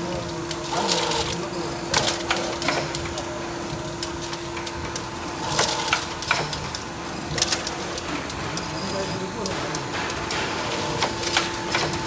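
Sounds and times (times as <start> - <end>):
machine hum and clatter: 0.0 - 12.0.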